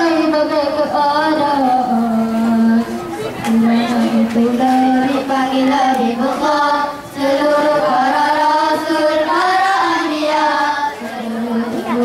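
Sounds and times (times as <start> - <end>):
boys singing into microphones: 0.0 - 12.0.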